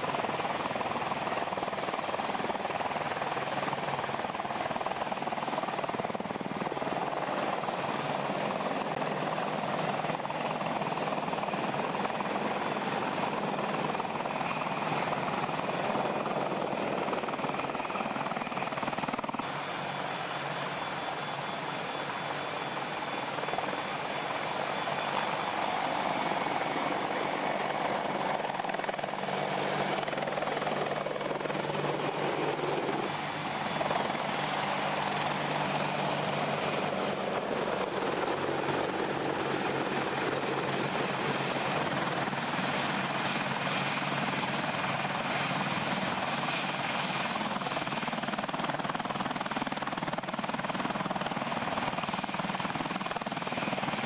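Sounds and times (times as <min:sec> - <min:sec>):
helicopter turbine and rotor noise: 0:00.0 - 0:54.0.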